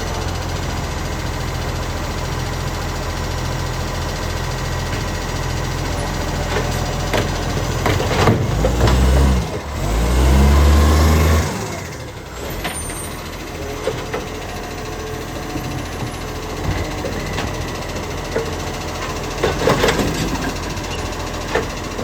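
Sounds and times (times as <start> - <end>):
garbage truck engine idling and revving: 0.0 - 22.0.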